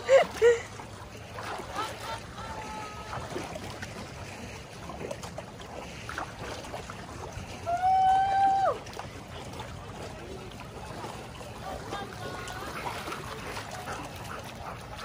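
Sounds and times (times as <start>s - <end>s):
lake water: 0.0s - 15.0s.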